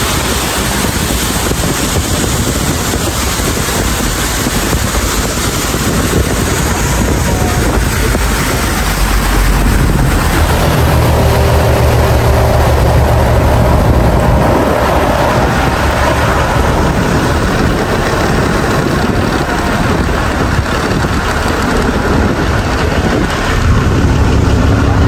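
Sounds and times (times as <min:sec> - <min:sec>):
boat engine running: 0:00.0 - 0:25.0
water spray rushing along hull: 0:00.0 - 0:25.0.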